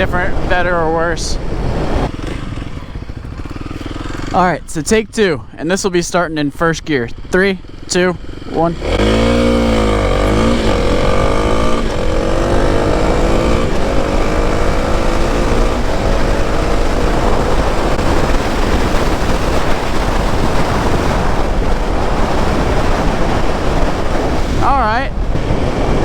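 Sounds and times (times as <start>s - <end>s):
wind rush on microphone: 0.0s - 5.3s, 7.1s - 26.0s
motorcycle engine accelerating: 0.0s - 26.0s.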